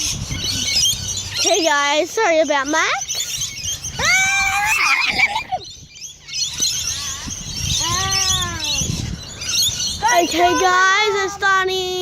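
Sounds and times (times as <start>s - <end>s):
lorikeets chattering and screeching: 0.0s - 12.0s.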